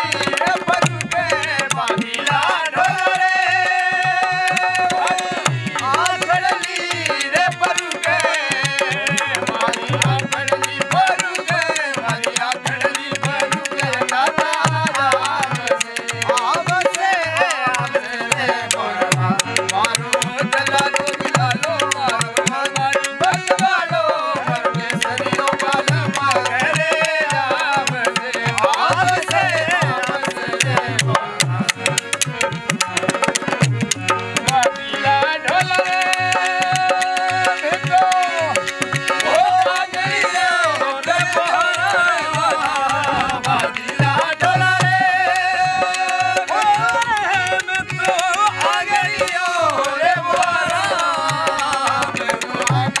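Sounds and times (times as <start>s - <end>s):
hand drum beating quick rhythm: 0.0s - 53.0s
harmonium reeds: 0.0s - 53.0s
man singing: 0.0s - 53.0s
wooden clappers clacking: 4.2s - 53.0s.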